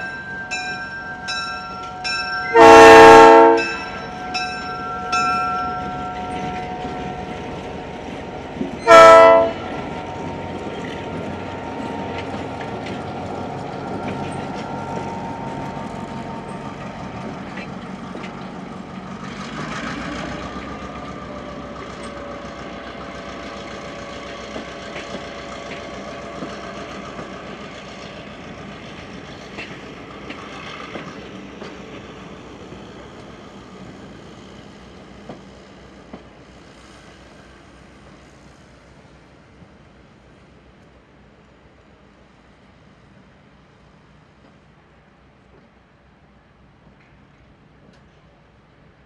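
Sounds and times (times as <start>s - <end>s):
passenger train rumbling by: 0.0s - 49.0s.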